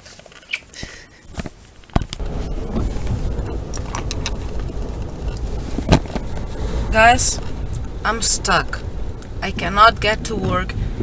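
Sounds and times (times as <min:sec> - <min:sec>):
car rumbling inside cabin: 0:02.0 - 0:11.0.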